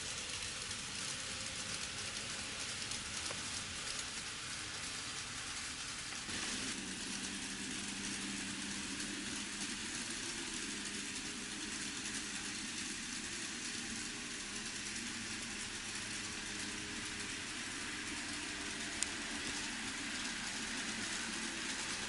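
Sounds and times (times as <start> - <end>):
model train wheels on rails: 0.0 - 22.0.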